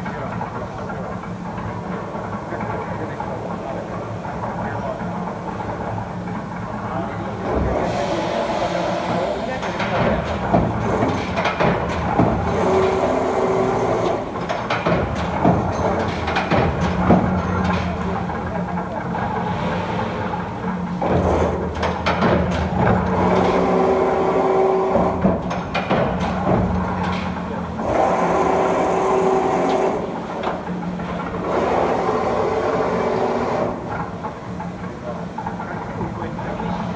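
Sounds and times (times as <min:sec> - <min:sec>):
punch press machine hum: 0:00.0 - 0:36.9.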